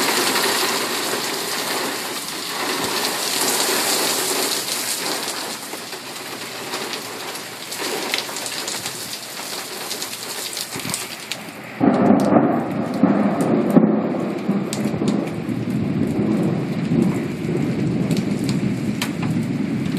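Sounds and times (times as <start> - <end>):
thunder rumbling: 0.0 - 10.0, 10.8 - 19.9
rain pattering: 0.0 - 19.9.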